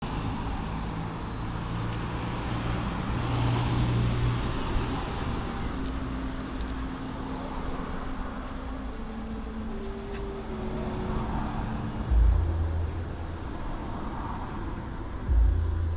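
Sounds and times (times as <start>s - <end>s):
road and wind noise: 0.0s - 15.9s
vehicle engine hum: 0.0s - 15.9s.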